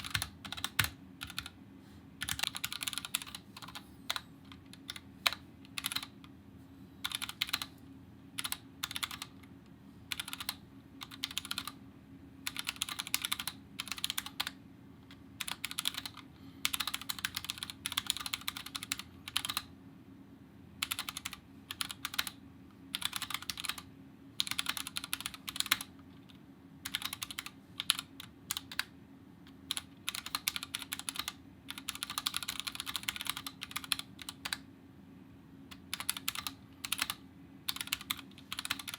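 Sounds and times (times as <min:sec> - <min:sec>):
mechanical keyboard typing: 0:00.0 - 0:01.6, 0:02.2 - 0:06.3, 0:07.0 - 0:07.7, 0:08.4 - 0:09.5, 0:10.1 - 0:11.8, 0:12.4 - 0:19.7, 0:20.8 - 0:28.9, 0:29.5 - 0:34.7, 0:35.7 - 0:38.9.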